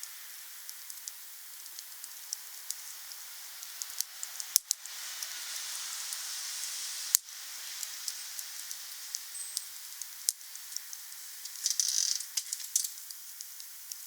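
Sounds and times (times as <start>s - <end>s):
wood fire hissing and crackling: 0.0s - 14.0s.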